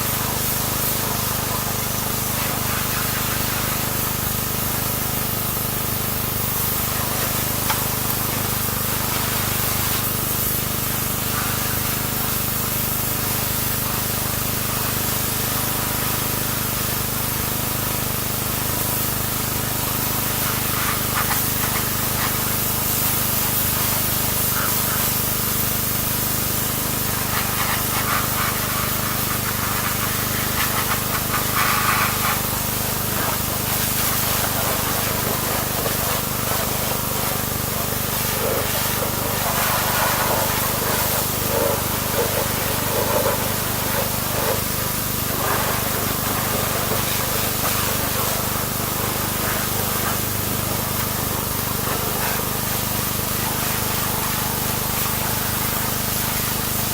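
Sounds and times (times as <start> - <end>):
pressure washer spraying: 0.0 - 56.9.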